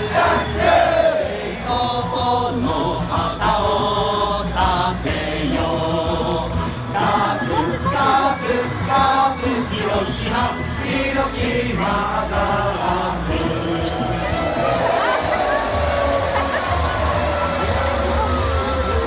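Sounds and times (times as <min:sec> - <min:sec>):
crowd noise: 0:00.0 - 0:19.0
stadium crowd singing: 0:00.0 - 0:19.0.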